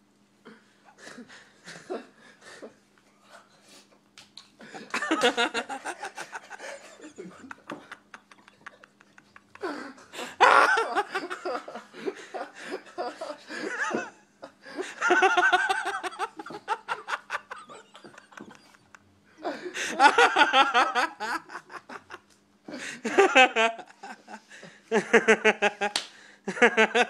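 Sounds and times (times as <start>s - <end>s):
faint steady hum: 0.0s - 27.0s
laughter: 4.6s - 27.0s.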